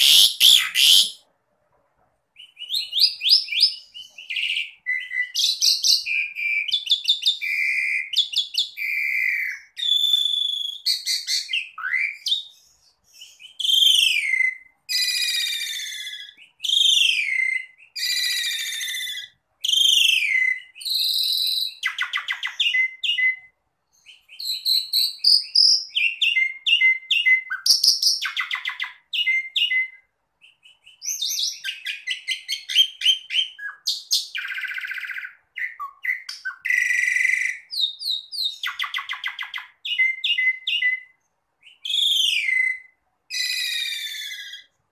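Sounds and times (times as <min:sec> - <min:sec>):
starling singing: 0:00.0 - 0:01.2, 0:02.4 - 0:44.8.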